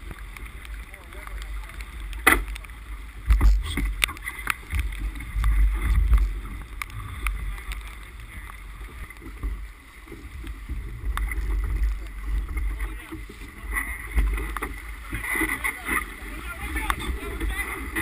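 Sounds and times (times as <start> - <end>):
hiss of wind and water: 0.0 - 18.0
wind buffeting microphone: 3.2 - 18.0.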